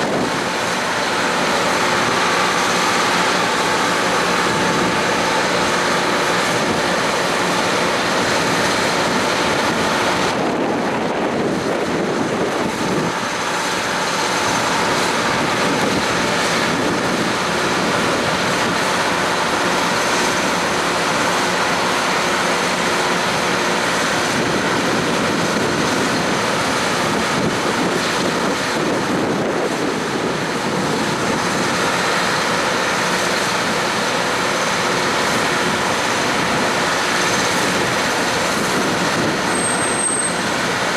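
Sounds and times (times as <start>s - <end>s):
vehicle running noise: 0.0s - 40.9s.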